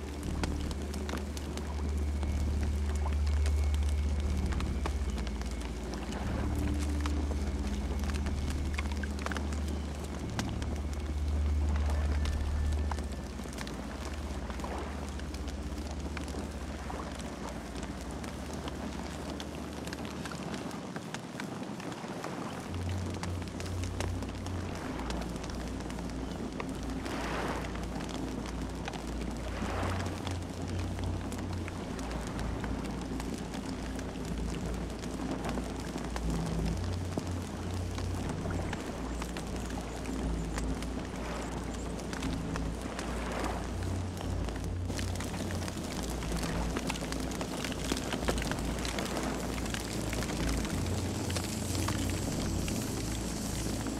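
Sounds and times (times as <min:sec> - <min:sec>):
low rumble: 0:00.0 - 0:20.4, 0:22.6 - 0:53.9
campfire crackling: 0:00.0 - 0:53.9.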